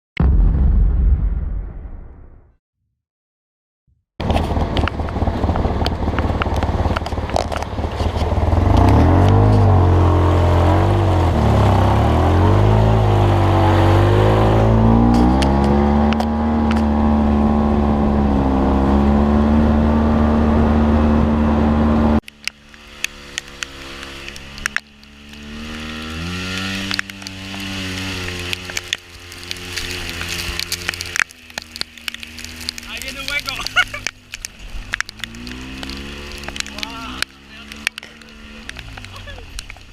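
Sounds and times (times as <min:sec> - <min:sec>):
off-road vehicle engine revving: 0:04.2 - 0:39.9.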